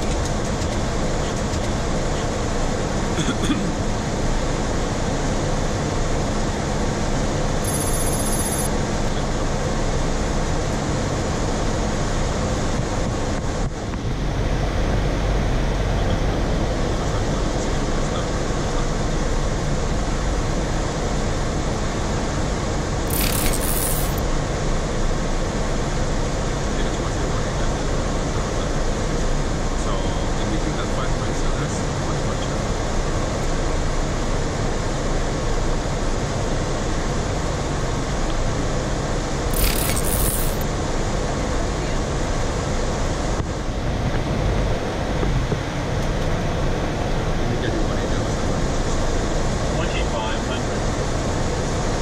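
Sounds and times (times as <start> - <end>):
airflow and machinery rush: 0.0 - 52.0.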